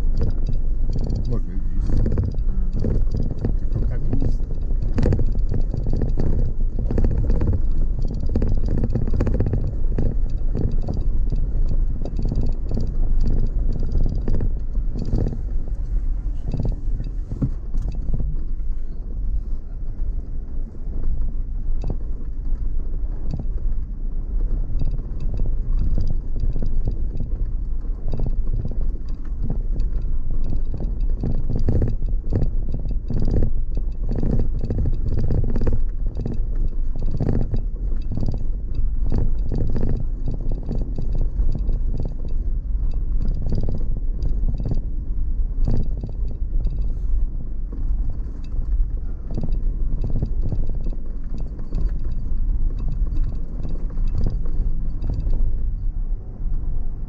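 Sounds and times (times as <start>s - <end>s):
knocks and rattles over bumps: 0.0s - 57.0s
vehicle engine and tyres rumbling: 0.0s - 57.0s.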